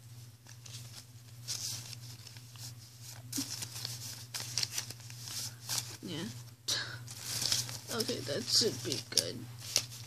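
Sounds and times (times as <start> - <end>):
steady low hum: 0.0 - 10.0
paper cards shuffling: 0.3 - 10.0.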